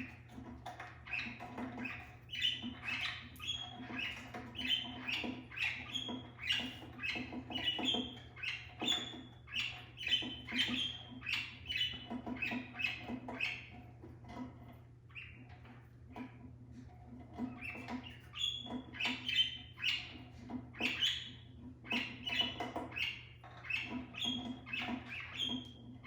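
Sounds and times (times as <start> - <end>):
budgerigars chirping: 0.0 - 14.4, 15.1 - 16.4, 17.3 - 26.0.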